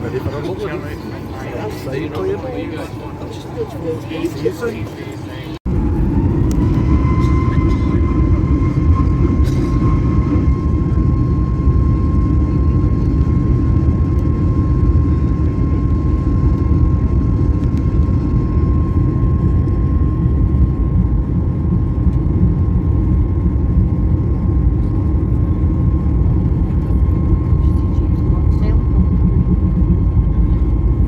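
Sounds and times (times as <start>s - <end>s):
low machinery rumble: 0.0s - 31.0s.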